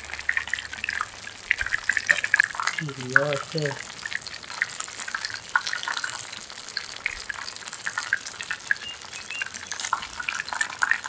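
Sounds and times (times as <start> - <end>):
oil sizzling in frying pan: 0.0 - 11.0.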